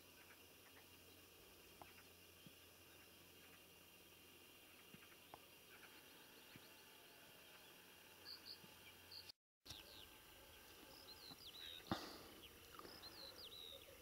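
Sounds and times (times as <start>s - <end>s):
distant songbirds chirping: 0.0s - 14.0s.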